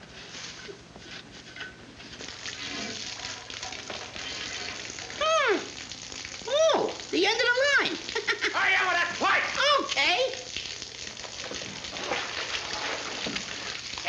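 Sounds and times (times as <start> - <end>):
hissing sizzling noise: 2.0 - 14.0.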